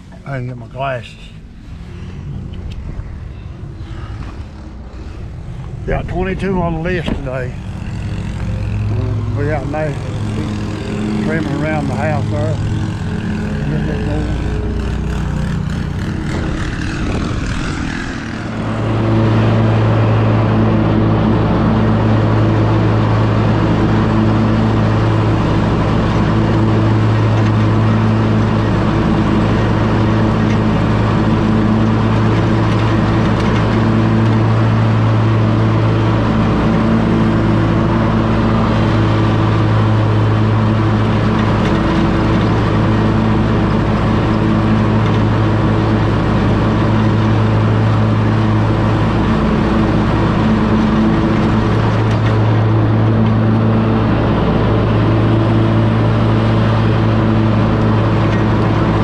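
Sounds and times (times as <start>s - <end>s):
lawn mower engine humming: 0.0s - 59.0s.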